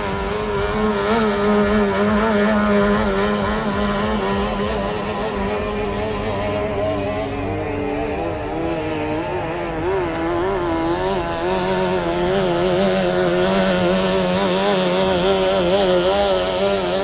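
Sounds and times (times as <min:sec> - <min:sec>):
powerboat engine at high revs: 0:00.0 - 0:17.0.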